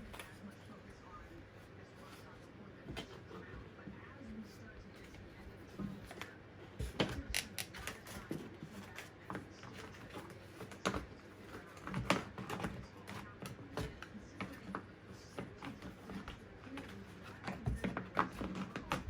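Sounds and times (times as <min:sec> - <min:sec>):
plastic fan parts clicking and rattling: 0:01.9 - 0:19.0.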